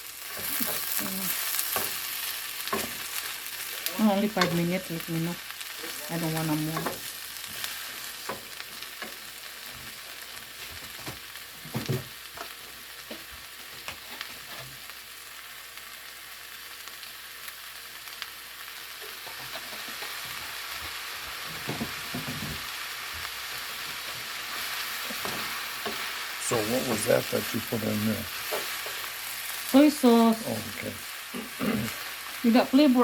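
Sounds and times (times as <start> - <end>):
noodles sizzling in a frying pan: 0.0 - 33.0.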